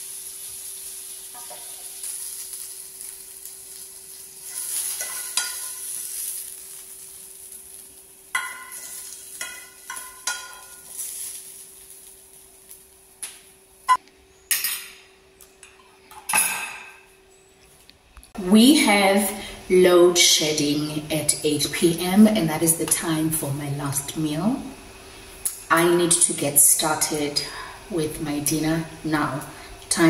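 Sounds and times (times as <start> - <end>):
steady high hiss: 0.0 - 14.0, 18.3 - 30.0
faint hum: 0.0 - 30.0.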